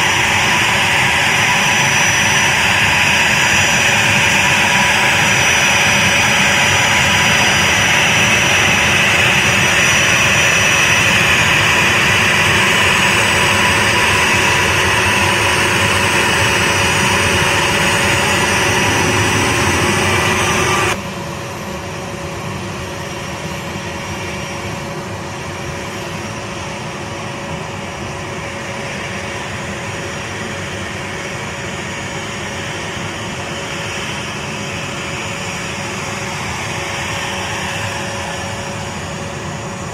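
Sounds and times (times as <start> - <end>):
jet engines running with high whine: 0.0 - 39.9.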